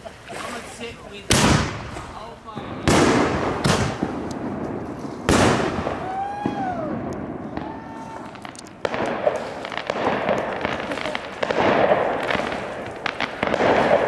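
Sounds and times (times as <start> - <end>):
fireworks crackling: 0.6 - 14.0
firework bang: 1.3 - 2.0, 2.6 - 14.0.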